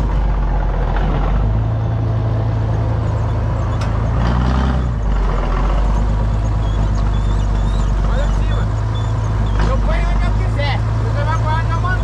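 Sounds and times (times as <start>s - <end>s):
tractor diesel engine idling: 0.0s - 4.2s, 4.9s - 12.0s.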